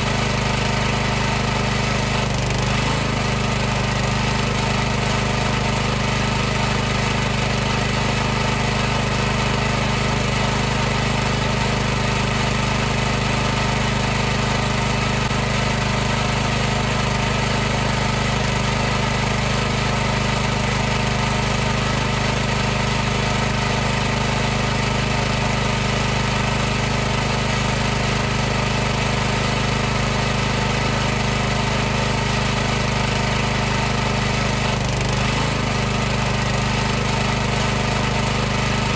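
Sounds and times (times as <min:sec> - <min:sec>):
pressure washer pump running: 0:00.0 - 0:38.9.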